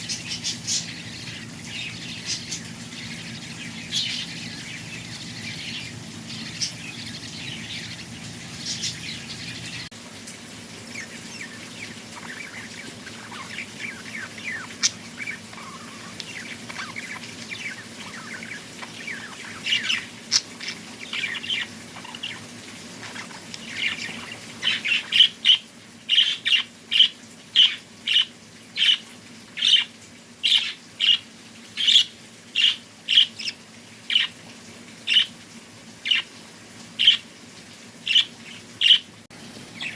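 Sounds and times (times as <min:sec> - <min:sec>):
small birds chirping: 0:00.0 - 0:35.4, 0:36.0 - 0:37.3, 0:38.0 - 0:39.9.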